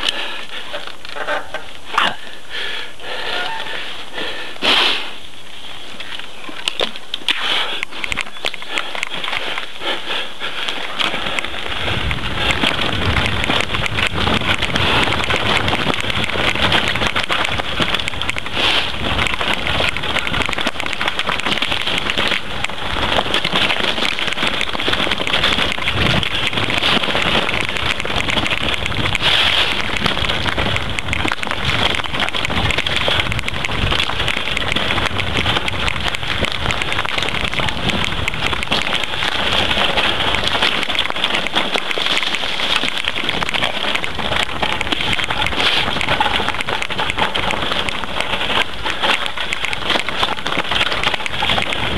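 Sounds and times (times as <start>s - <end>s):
bike tyres rattling over gravel: 5.5s - 51.9s
bike shaking: 5.8s - 51.9s.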